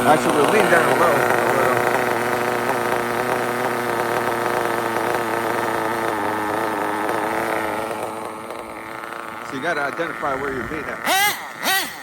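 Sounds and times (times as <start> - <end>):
model car nitro engine running: 0.0 - 12.0.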